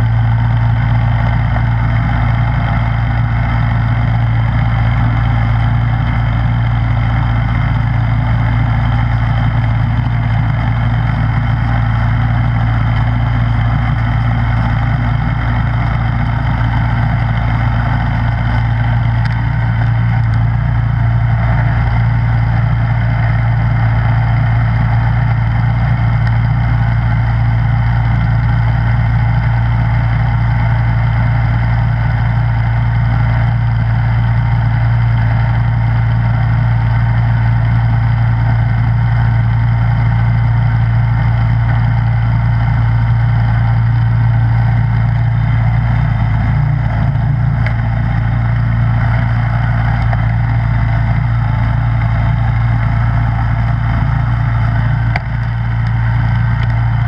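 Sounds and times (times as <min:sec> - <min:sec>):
snowblower engine humming: 0:00.0 - 0:57.0.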